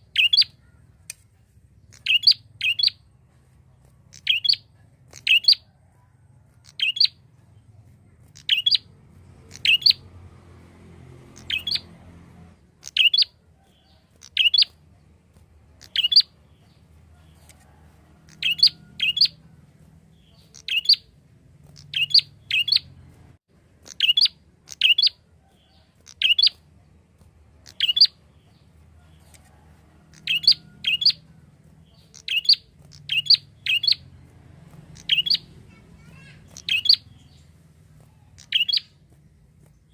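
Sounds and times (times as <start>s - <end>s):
bird chirping calls: 0.0s - 39.9s.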